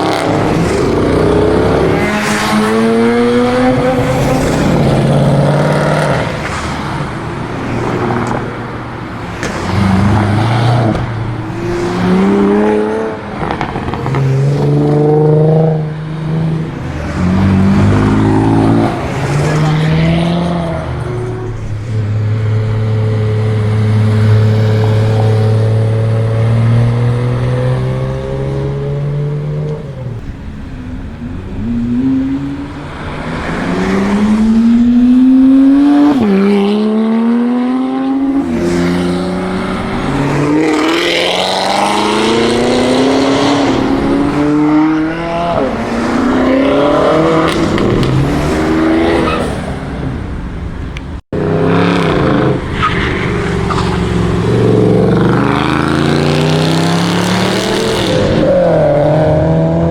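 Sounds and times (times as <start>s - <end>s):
car engine pulling away: 0.0s - 59.9s
engines accelerating hard: 0.0s - 59.9s.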